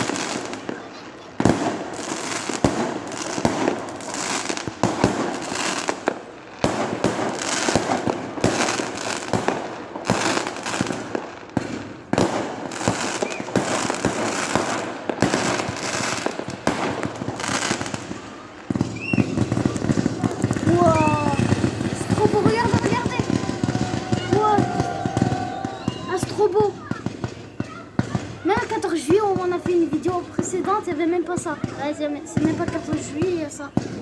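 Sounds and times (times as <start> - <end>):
fireworks bangs: 0.0 - 34.0
fireworks crackling: 0.0 - 34.0.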